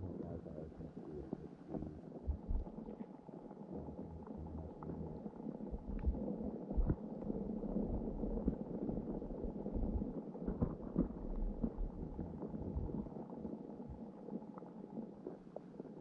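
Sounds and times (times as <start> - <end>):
low rumble of water underwater: 0.0 - 16.0.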